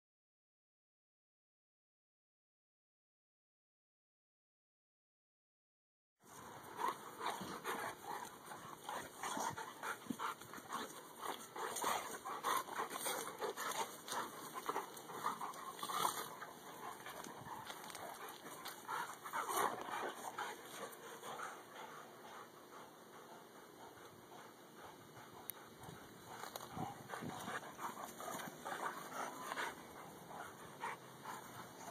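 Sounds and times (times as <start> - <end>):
dogs panting: 6.3 - 31.9
dogs growling vocal sounds: 6.4 - 31.9.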